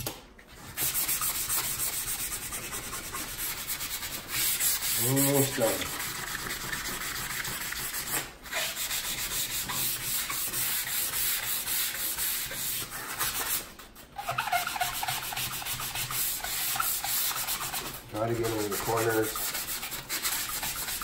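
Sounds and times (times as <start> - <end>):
hand sanding wood: 0.5 - 21.0.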